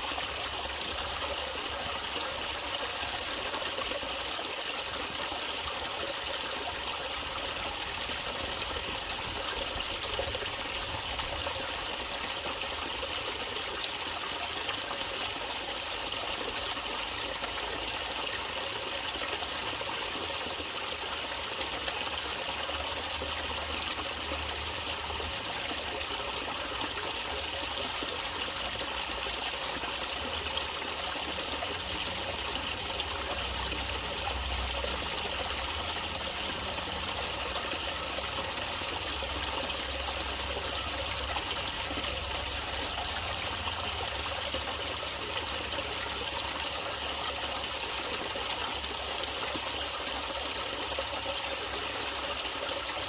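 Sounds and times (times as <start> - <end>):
stream trickling and splashing: 0.0 - 53.0.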